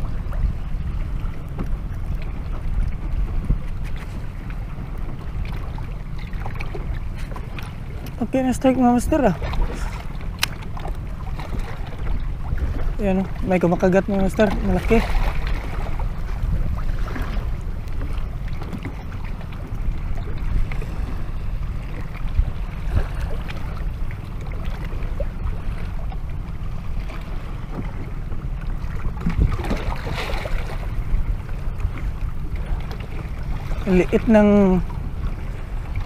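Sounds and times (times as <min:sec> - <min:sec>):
choppy water washing around boat: 0:00.0 - 0:36.0
wind rumbling on microphone: 0:00.0 - 0:36.0.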